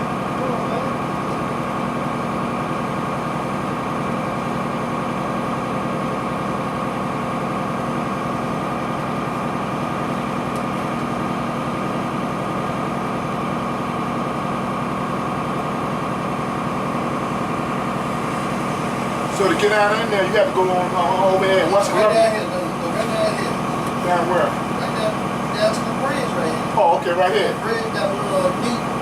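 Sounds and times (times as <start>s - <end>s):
diesel bus engine droning: 0.0s - 29.0s.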